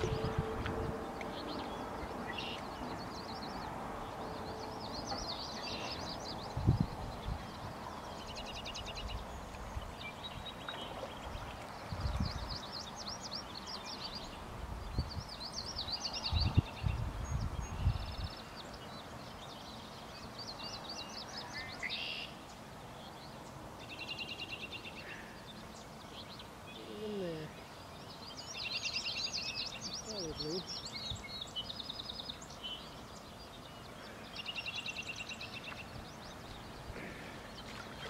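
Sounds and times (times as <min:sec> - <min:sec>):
songbirds trilling and chirping: 0:00.0 - 0:38.0
steady outdoor hiss: 0:00.0 - 0:38.0.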